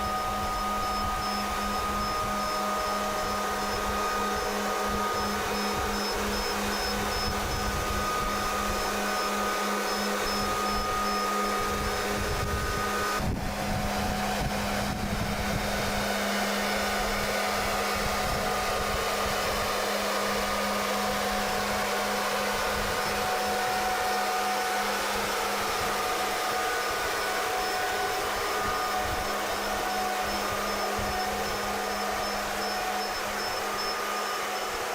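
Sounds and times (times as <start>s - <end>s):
machine whirring with low hum: 0.0s - 34.9s.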